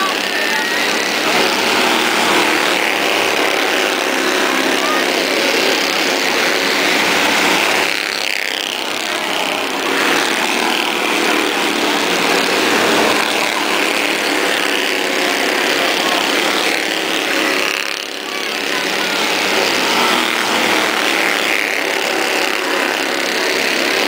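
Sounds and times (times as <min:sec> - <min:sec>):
race cars passing close: 0:00.0 - 0:24.0
small race car engines buzzing: 0:00.0 - 0:24.0.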